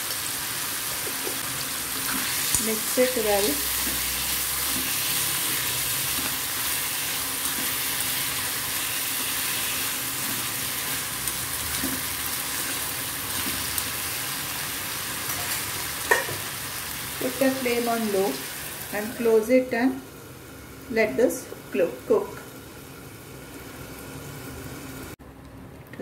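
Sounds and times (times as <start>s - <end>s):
plantain sizzling in hot oil: 0.0s - 25.2s.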